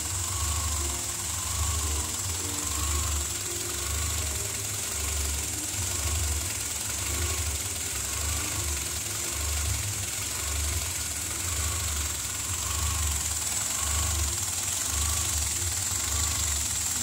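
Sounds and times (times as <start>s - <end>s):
car engine idling roughly: 0.0s - 17.0s.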